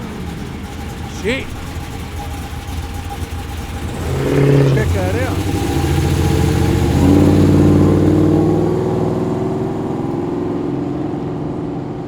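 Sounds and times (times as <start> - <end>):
car engine revving and accelerating: 0.0 - 12.0.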